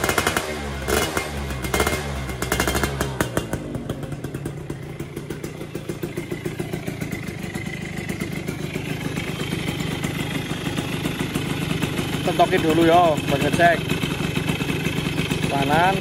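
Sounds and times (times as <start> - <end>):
two-stroke engine revving and idling: 0.0 - 16.0.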